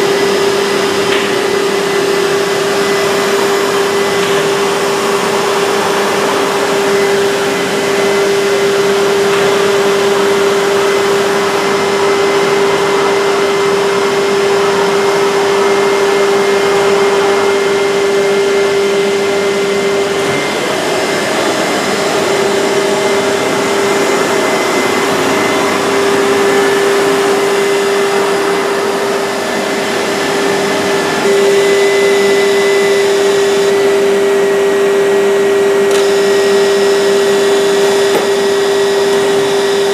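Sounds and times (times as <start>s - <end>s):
constant machine hum: 0.0s - 39.9s
woodworking machinery running: 0.0s - 39.9s.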